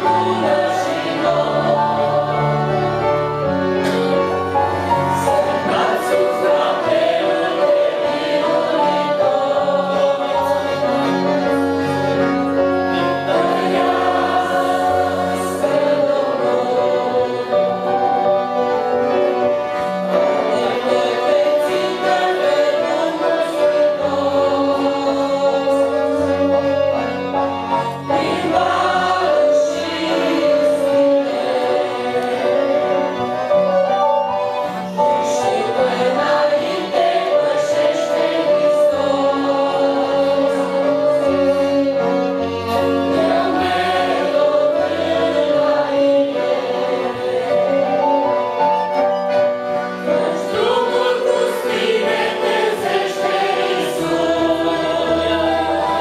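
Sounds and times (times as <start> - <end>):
young women singing a hymn: 0.0 - 4.0, 4.6 - 18.4, 20.2 - 33.2, 35.1 - 48.2, 49.8 - 56.0
piano accordion chords: 0.0 - 56.0
violin playing: 0.0 - 56.0.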